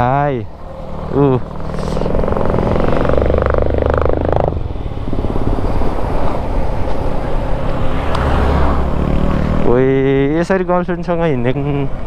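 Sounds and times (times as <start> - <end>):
motorcycle engine while riding: 0.0 - 12.0
wind and road noise: 0.0 - 12.0.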